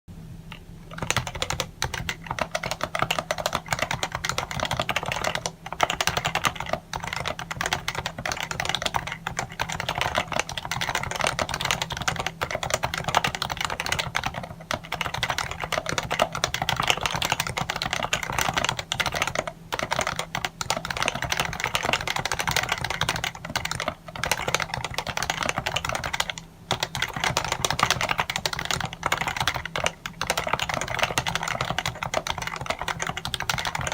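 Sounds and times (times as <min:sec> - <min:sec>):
steady low hum: 0:00.1 - 0:33.9
fast typing on keyboard: 0:00.5 - 0:33.9.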